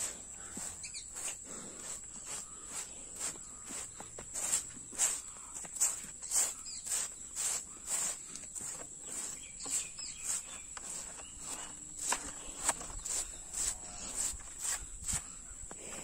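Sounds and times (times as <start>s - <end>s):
broom scratching dirt floor: 0.0s - 16.0s.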